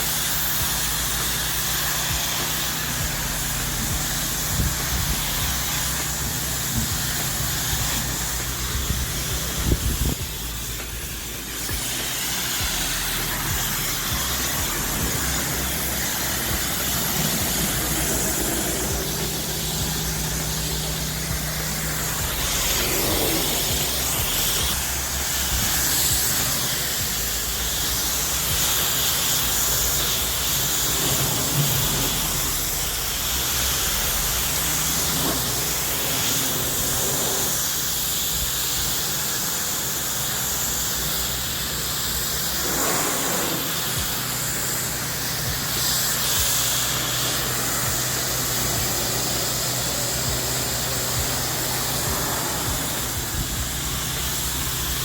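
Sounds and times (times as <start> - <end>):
engine humming: 0.0 - 38.0, 40.7 - 55.0
pressure washer water spray hiss: 0.0 - 55.0.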